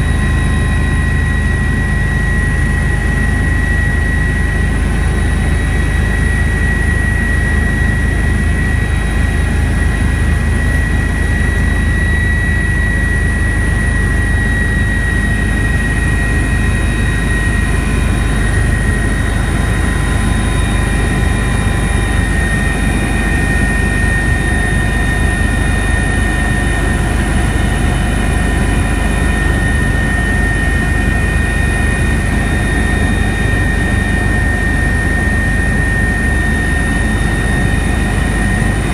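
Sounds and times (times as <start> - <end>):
helicopter rotor rumble: 0.0 - 38.9
turbine whine: 0.0 - 38.9.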